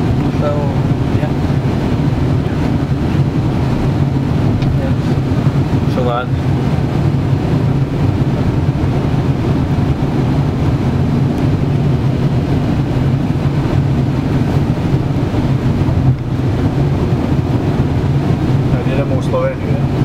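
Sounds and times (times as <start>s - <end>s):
car engine drone: 0.0s - 20.0s
tyres on road: 0.0s - 20.0s.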